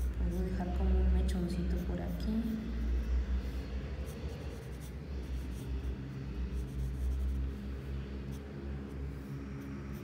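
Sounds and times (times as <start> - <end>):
pencil scratching on paper: 0.0 - 8.5, 9.1 - 10.0.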